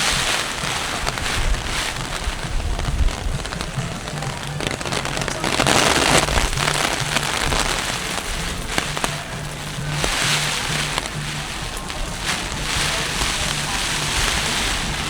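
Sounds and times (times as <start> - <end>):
background music: 0.0 - 15.0
heavy rain splashing: 0.0 - 15.0.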